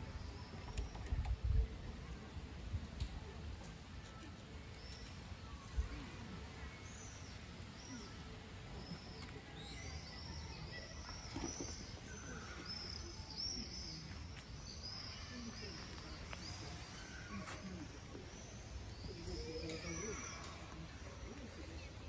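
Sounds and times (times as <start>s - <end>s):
small birds chirping: 3.7s - 22.0s.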